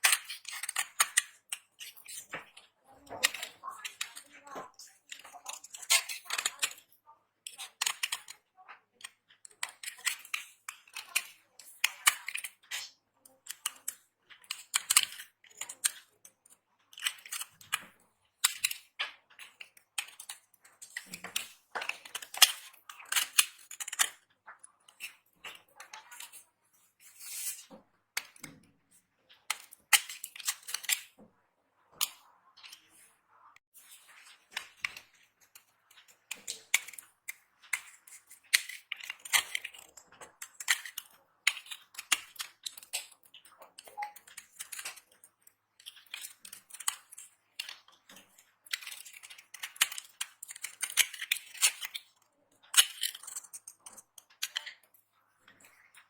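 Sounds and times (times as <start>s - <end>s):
soap crackling and crunching: 0.0s - 31.2s, 33.6s - 56.0s.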